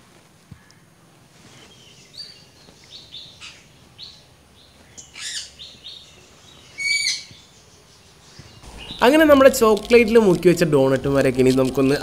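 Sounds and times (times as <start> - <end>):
small birds chirping: 0.5 - 12.0.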